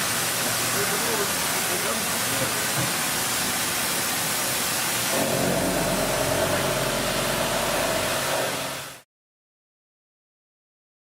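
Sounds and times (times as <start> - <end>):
mechanical hiss with hum: 0.0 - 9.0.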